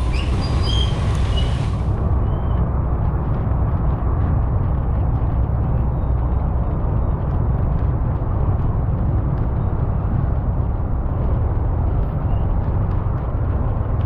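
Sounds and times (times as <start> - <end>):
car road noise rumble: 0.0 - 14.0
wind noise: 0.0 - 14.0.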